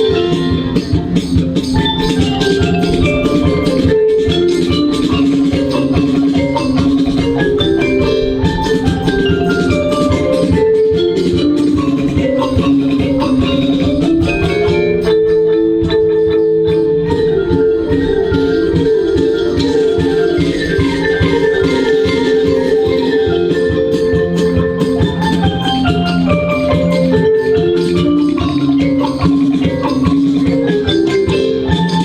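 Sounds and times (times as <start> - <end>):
marimba and xylophone: 0.0 - 32.0
steady drum beat: 0.0 - 32.0.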